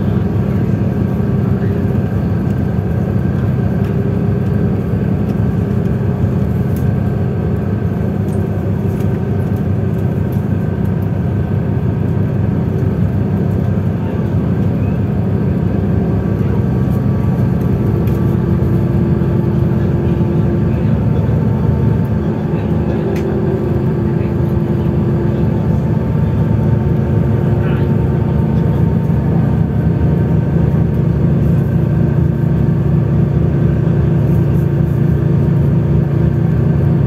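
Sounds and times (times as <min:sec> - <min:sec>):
bus diesel engine drone: 0:00.0 - 0:37.0.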